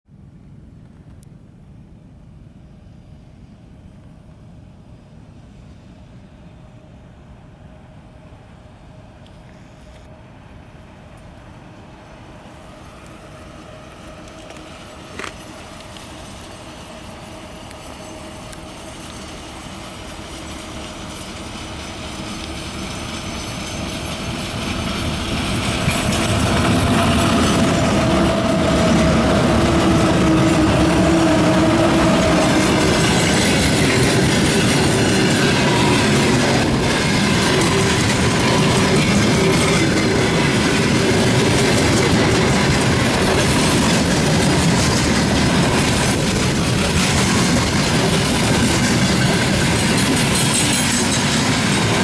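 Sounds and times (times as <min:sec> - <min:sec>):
train low rumble: 0:00.1 - 0:52.0.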